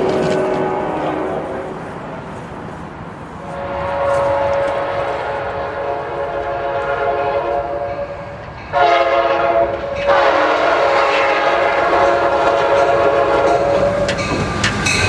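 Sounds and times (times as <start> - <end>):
train horn blasts: 0.0 - 1.8, 3.4 - 14.1.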